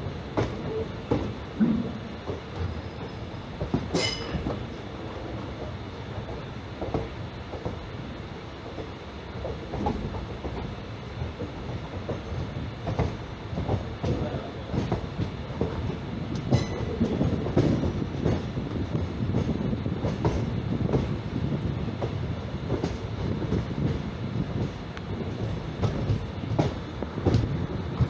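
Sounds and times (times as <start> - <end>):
train wheels rumbling on rails: 0.0 - 28.0
clacks over rail joints: 0.3 - 7.9, 8.6 - 21.2, 22.0 - 28.0.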